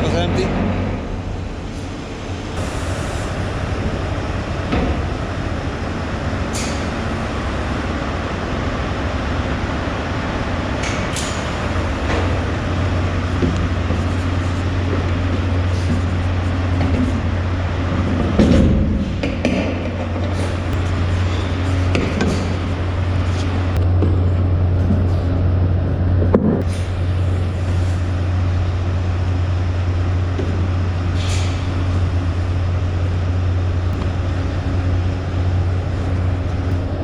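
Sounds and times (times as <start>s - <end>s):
machinery noise: 0.0s - 37.0s.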